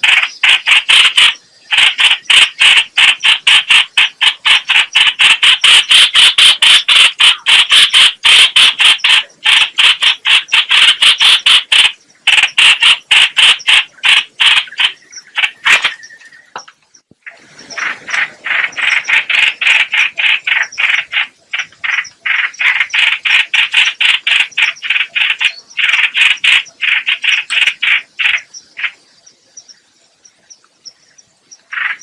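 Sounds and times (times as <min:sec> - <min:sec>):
bird harsh chattering call: 0:00.0 - 0:16.7, 0:17.3 - 0:29.0, 0:31.6 - 0:32.0.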